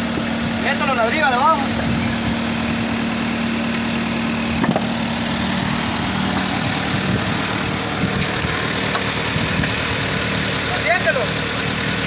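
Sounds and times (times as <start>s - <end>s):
bulldozer diesel engine idling: 0.0s - 12.0s.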